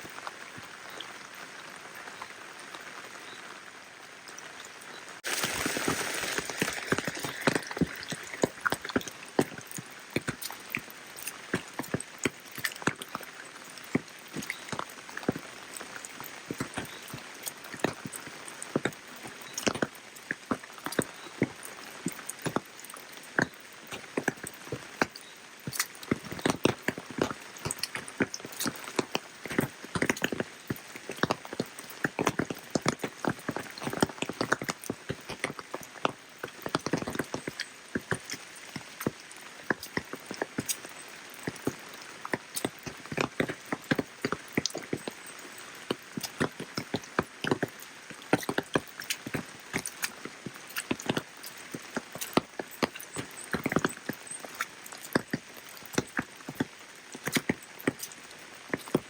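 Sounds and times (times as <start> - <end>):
steady rain: 0.0 - 59.0
sharp drips and drop impacts: 5.2 - 59.0.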